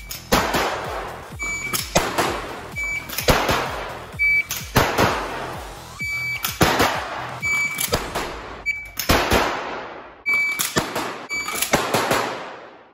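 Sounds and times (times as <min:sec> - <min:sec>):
pistol shots echoing indoors: 0:00.1 - 0:04.0, 0:04.7 - 0:05.3, 0:06.4 - 0:12.9.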